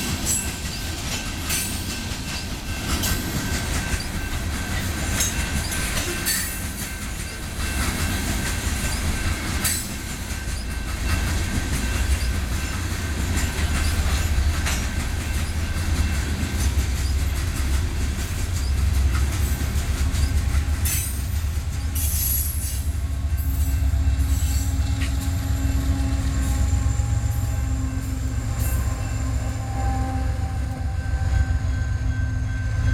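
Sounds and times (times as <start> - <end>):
train wheels clacking over rail joints: 0.0 - 28.9
train wheels squealing: 0.0 - 32.9.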